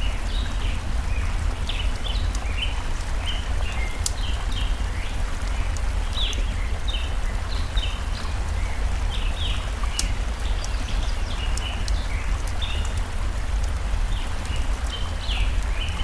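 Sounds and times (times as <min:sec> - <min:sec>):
campfire crackling: 0:00.0 - 0:06.9, 0:07.6 - 0:16.0
stream flowing: 0:00.0 - 0:16.0.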